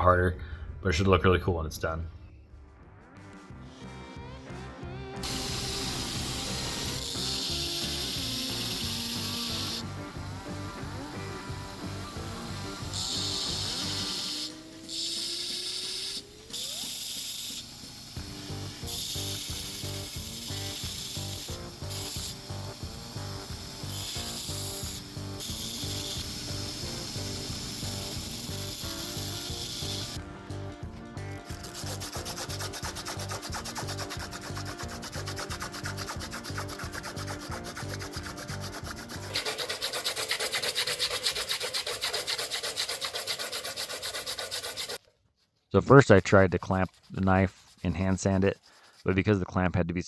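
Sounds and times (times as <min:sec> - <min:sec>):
sandpaper rasping on handle: 0:05.2 - 0:30.2, 0:31.4 - 0:49.5.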